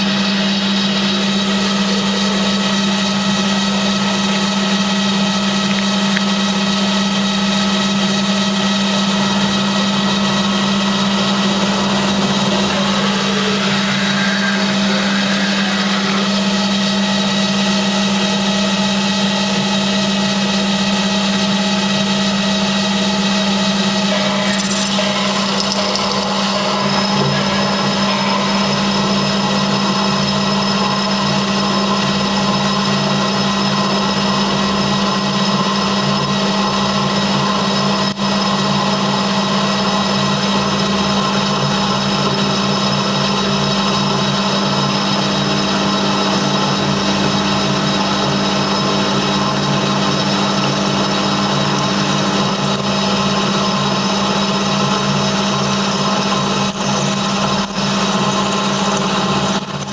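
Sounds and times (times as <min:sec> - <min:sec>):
high machine whine: 0:00.0 - 0:59.9
lathe motor and spindle hum: 0:00.0 - 0:59.9.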